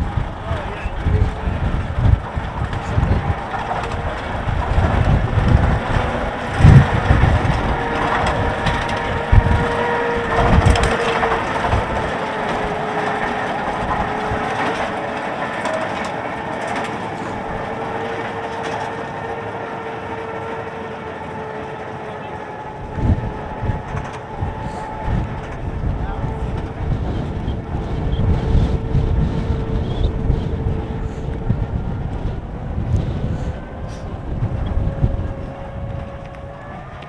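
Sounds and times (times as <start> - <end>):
diesel locomotive engine whine: 0.0 - 37.0.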